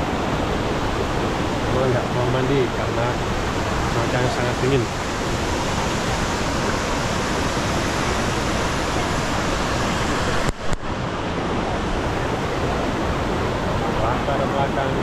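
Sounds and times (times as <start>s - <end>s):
river running over boulders: 0.0s - 15.0s
waterfall roar: 0.0s - 15.0s.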